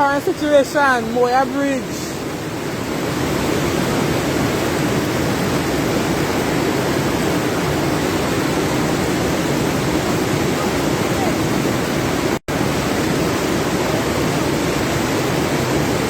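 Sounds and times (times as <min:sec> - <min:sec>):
flooded river rushing: 0:00.0 - 0:16.0.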